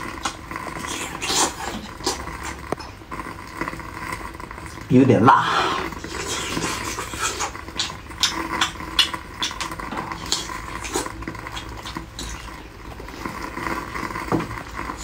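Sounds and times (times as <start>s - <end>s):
chewing and lip-smacking: 0.0s - 3.8s, 6.0s - 15.0s.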